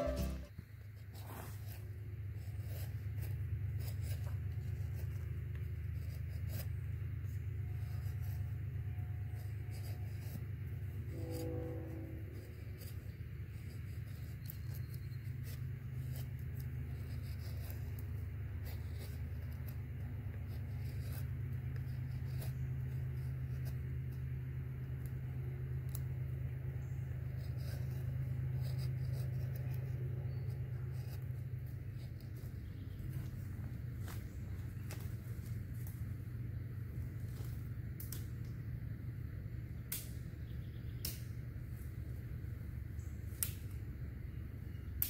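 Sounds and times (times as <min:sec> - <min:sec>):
knife scraping a stick: 0:00.0 - 0:36.1.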